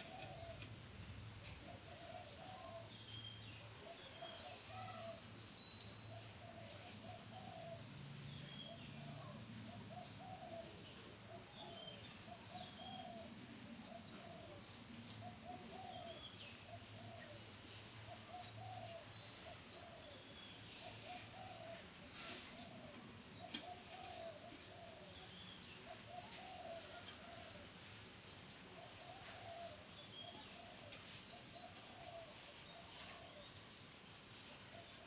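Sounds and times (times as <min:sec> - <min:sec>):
doves cooing: 0:00.0 - 0:02.9, 0:03.7 - 0:05.2, 0:06.1 - 0:07.9, 0:08.7 - 0:28.0, 0:28.7 - 0:33.6.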